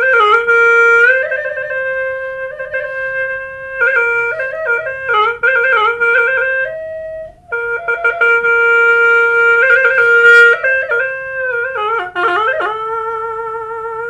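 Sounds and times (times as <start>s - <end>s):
solo woodwind melody: 0.0s - 14.0s.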